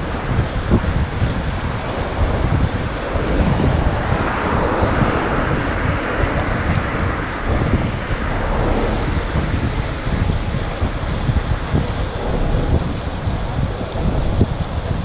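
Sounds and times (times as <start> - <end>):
outdoor noise: 0.0 - 15.0
wind buffeting microphone: 0.0 - 15.0.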